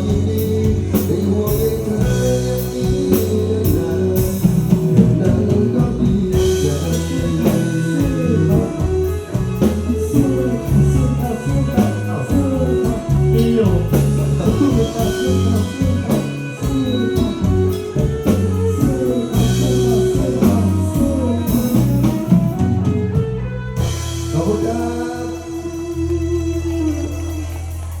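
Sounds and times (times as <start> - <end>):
live band playing pop: 0.0 - 28.0.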